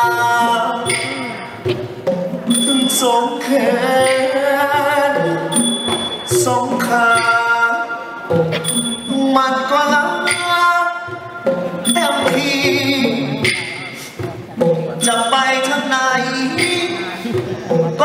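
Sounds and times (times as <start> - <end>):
traditional ensemble playing: 0.0 - 18.0.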